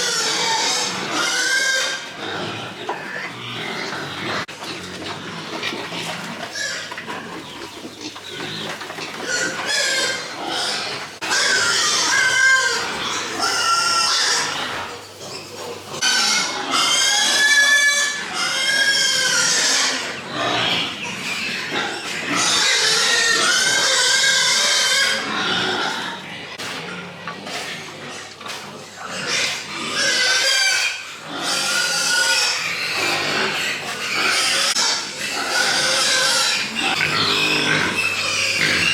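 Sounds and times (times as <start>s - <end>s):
pigs squealing: 0.0s - 38.9s.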